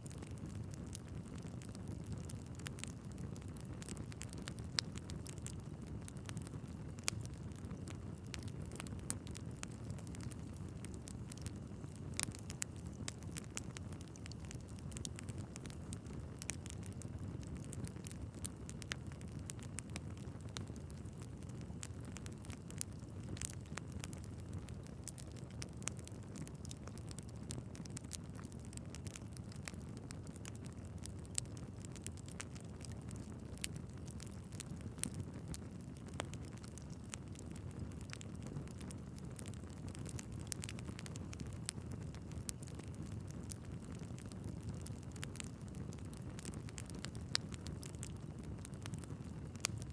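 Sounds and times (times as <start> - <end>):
logs crackling and popping: 0.0 - 49.9
low rumble of flames: 0.0 - 49.9.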